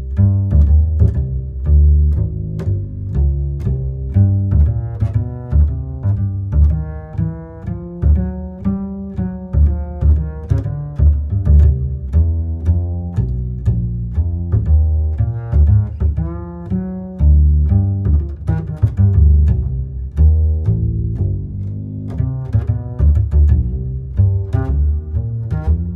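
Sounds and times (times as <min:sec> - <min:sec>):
deep bass line music: 0:00.0 - 0:25.9.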